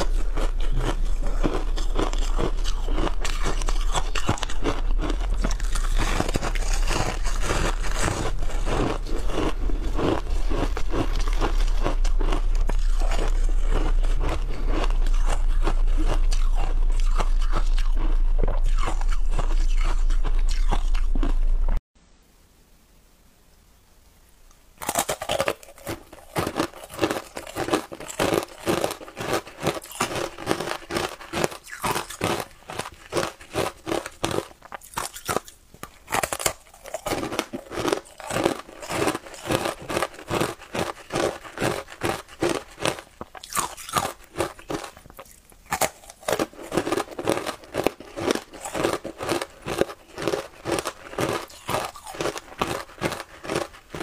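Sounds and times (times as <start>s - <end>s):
crunchy ice being chewed: 0.0s - 21.8s, 24.8s - 54.0s.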